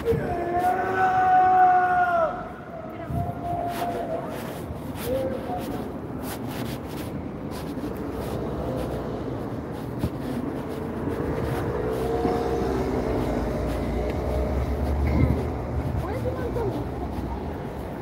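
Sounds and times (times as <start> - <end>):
rail noise: 0.0 - 18.0
traffic rumble: 0.0 - 18.0.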